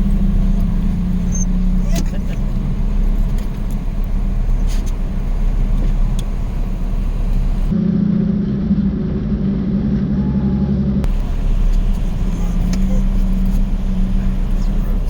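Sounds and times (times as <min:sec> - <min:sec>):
car engine humming while driving: 0:00.0 - 0:15.0.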